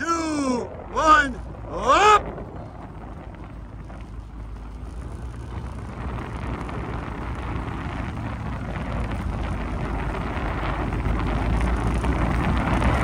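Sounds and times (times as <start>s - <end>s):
low motor drone: 0.0s - 13.0s
wind buffeting the microphone: 0.0s - 13.0s.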